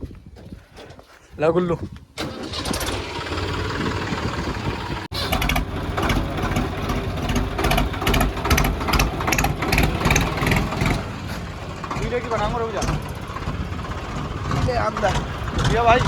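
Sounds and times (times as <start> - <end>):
tractor diesel engine idling: 2.2 - 16.0.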